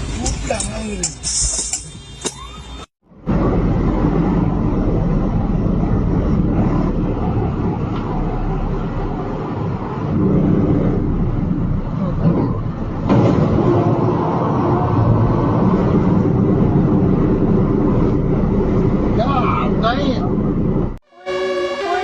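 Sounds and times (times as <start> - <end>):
road noise: 0.0 - 22.0
truck engine: 2.2 - 22.0.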